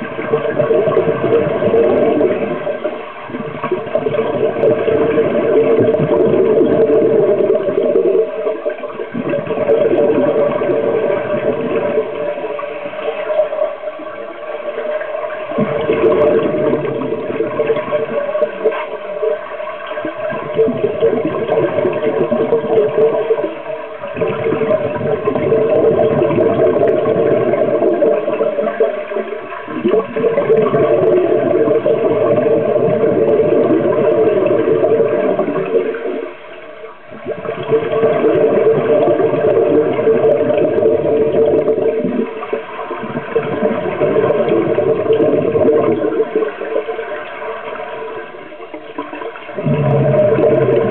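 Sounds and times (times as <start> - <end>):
regulator bubbles gurgling underwater: 0.0 - 50.9.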